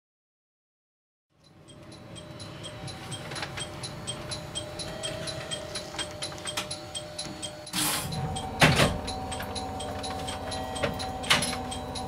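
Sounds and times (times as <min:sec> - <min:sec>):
electrical hum: 0:01.4 - 0:12.0
regular ticking: 0:01.4 - 0:12.0.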